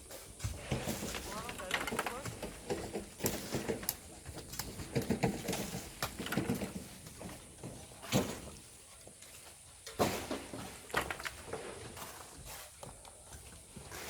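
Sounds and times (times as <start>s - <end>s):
hand tools knocking and scraping stones: 0.0s - 14.0s.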